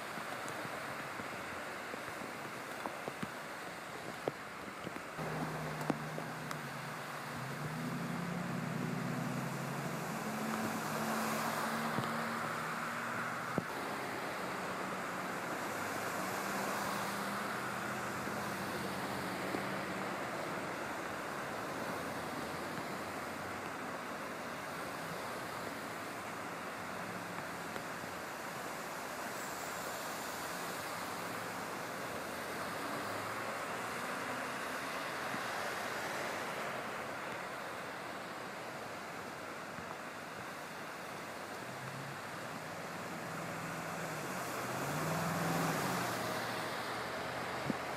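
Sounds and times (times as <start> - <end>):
engine hum: 4.8 - 47.9.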